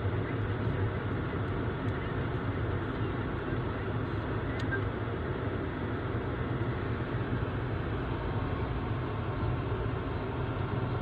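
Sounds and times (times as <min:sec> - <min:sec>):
car interior driving rumble: 0:00.0 - 0:11.0.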